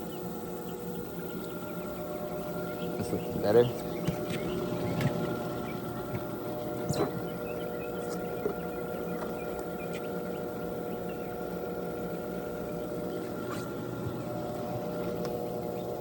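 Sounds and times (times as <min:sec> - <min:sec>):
pool filter pump humming: 0:00.0 - 0:16.0.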